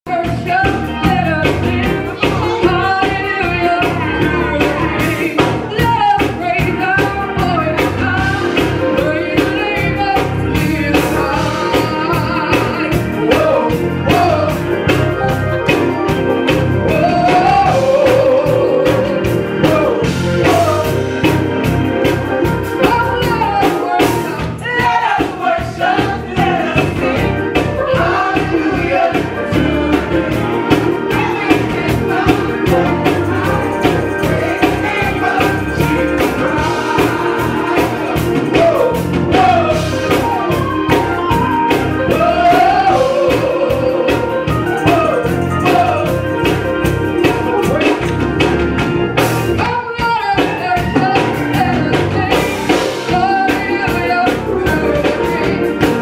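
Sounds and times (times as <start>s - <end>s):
group singing gospel: 0.1s - 56.0s
instrumental accompaniment: 0.1s - 56.0s.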